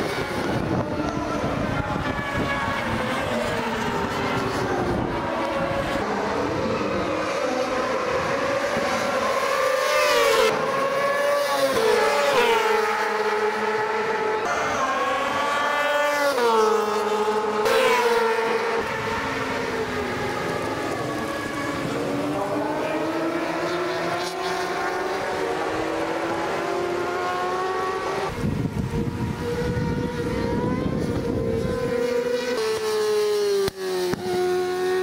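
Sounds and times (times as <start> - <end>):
motorcycle engines at high revs: 0.0 - 35.0.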